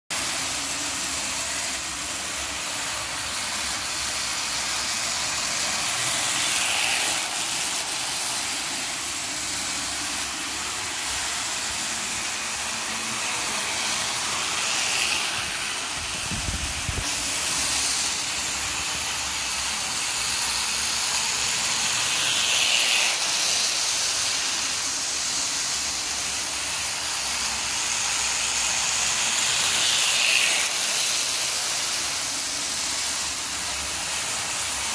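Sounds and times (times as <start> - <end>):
model train running on track: 0.1 - 34.9.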